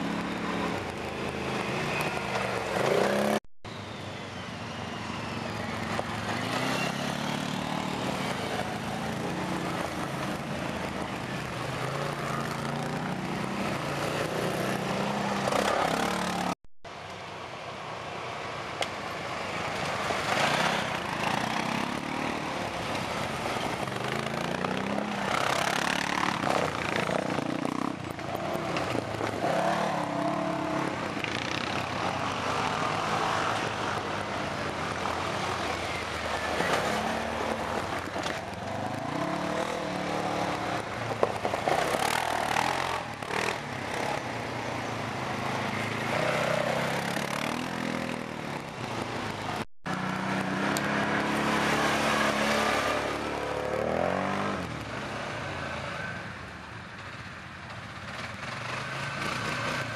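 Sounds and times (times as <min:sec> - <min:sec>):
off-road vehicle engines revving: 0:05.0 - 0:16.6, 0:19.9 - 0:56.1, 0:58.0 - 0:59.9.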